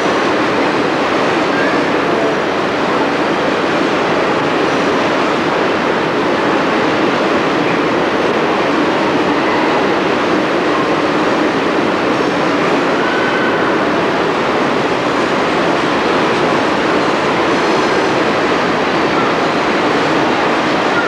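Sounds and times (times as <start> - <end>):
train wheels on rail: 0.0 - 21.0.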